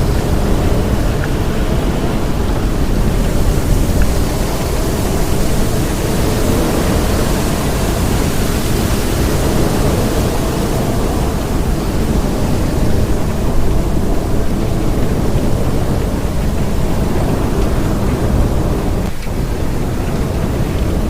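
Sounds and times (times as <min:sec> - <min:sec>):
deep low rumble: 0:00.0 - 0:21.0
rain: 0:00.0 - 0:21.0
wind: 0:00.0 - 0:21.0.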